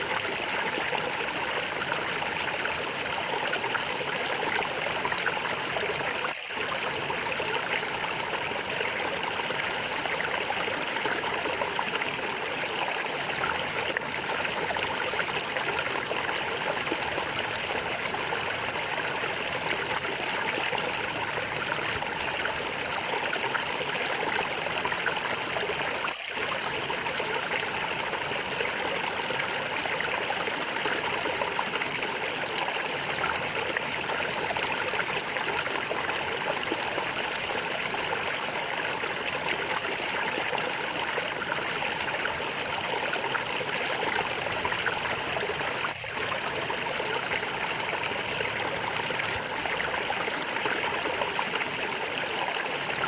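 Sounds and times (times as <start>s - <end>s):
stream water gurgling: 0.0s - 53.0s.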